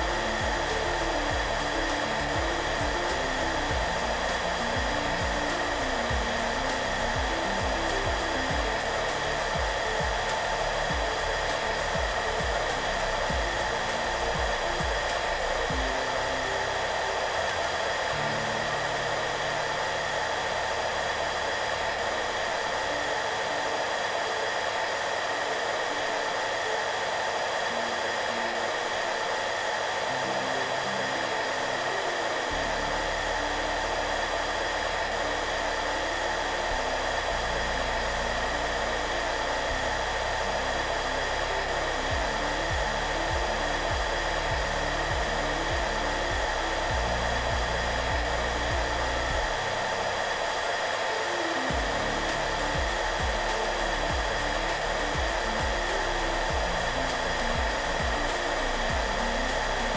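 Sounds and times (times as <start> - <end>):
hair dryer blowing: 0.0 - 59.9
soft background music: 0.0 - 59.9.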